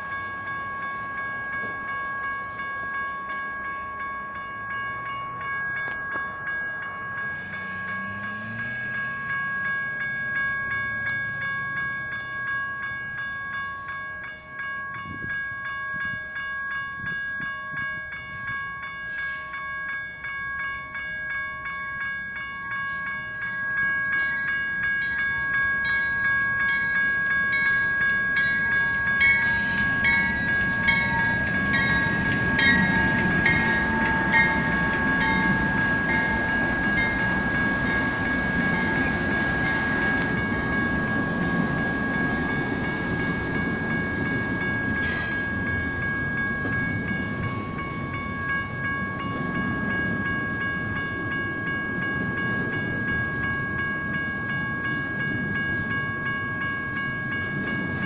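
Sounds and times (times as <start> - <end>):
diesel locomotive rumble: 0.0 - 58.0
railroad crossing bells ringing: 0.0 - 58.0.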